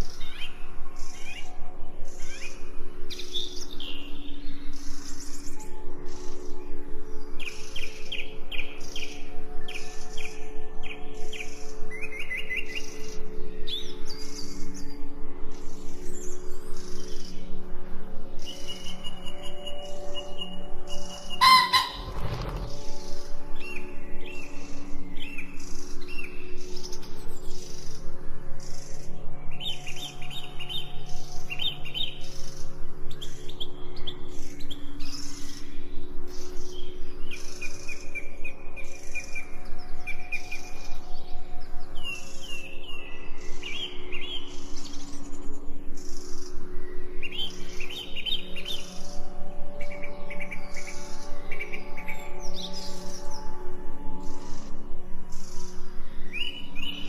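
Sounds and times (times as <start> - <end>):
ambient music drone: 0.0 - 57.0
songbirds chirping: 0.0 - 57.0.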